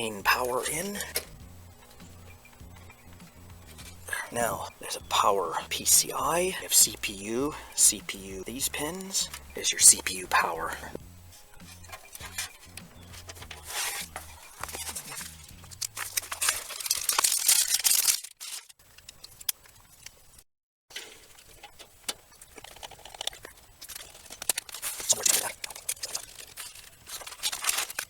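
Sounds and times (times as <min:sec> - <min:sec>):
cables rustling and clicking: 0:00.0 - 0:20.4, 0:21.1 - 0:28.0.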